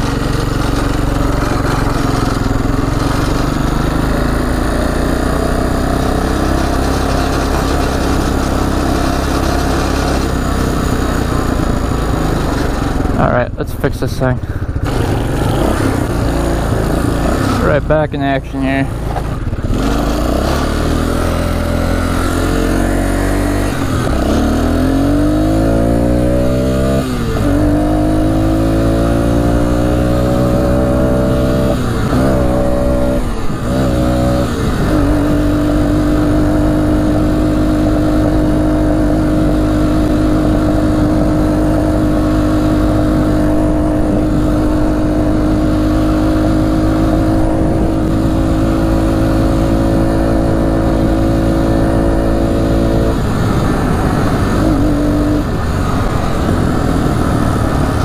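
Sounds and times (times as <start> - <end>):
atv engine accelerating: 0.0 - 58.0.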